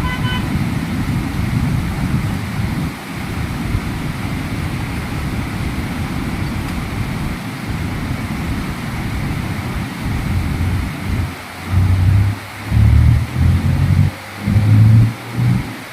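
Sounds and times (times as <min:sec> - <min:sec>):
waterfall roaring: 0:00.0 - 0:15.9.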